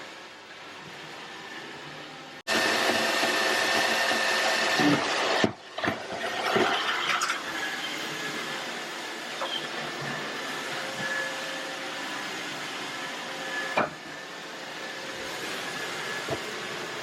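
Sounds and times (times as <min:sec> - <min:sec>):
robot vacuum whirring: 0:00.8 - 0:17.0.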